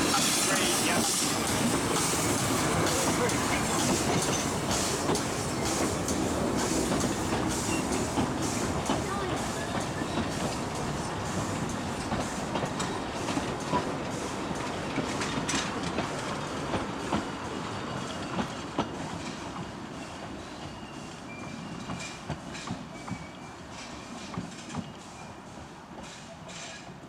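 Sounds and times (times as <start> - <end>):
train wheels clicking over rail joints: 0.0 - 19.8, 20.6 - 27.0
train rattling rumble: 0.0 - 27.0.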